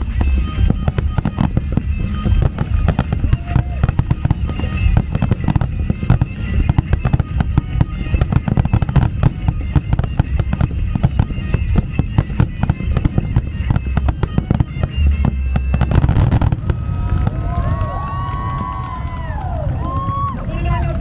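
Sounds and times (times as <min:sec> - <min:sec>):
deep rumble: 0:00.0 - 0:21.0
fireworks bangs and booms: 0:00.0 - 0:21.0
music playing: 0:00.0 - 0:21.0.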